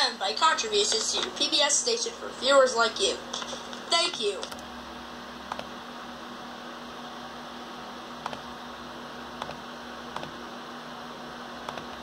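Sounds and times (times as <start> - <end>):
laptop cooling fan hum: 0.0 - 12.0.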